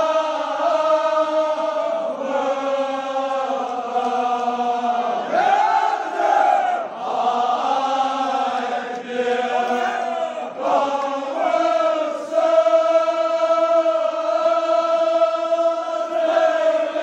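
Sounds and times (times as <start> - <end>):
group of men chanting: 0.0 - 17.0.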